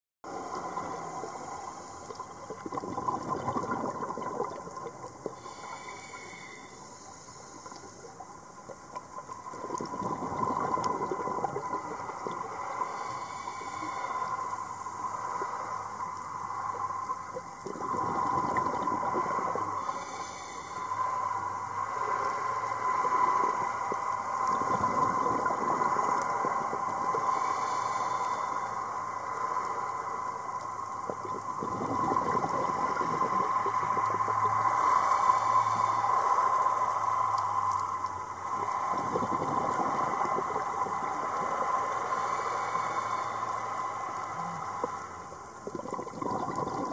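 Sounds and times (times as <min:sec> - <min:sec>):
underwater hum: 0:00.2 - 0:46.9
bubbling crackle: 0:00.3 - 0:21.4, 0:22.5 - 0:28.7, 0:29.6 - 0:46.9
water hiss: 0:00.3 - 0:46.9.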